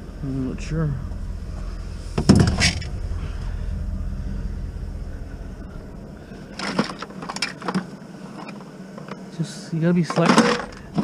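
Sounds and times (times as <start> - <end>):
low steady rumble: 0.0 - 8.9, 10.5 - 11.0.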